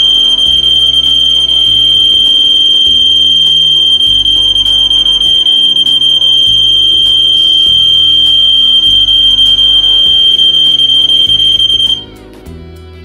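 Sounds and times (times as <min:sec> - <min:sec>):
smoke alarm test tone: 0:00.0 - 0:12.1.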